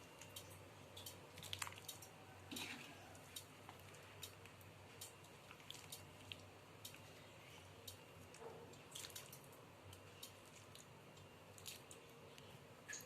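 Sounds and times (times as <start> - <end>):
soft wet squish: 0.0 - 13.0.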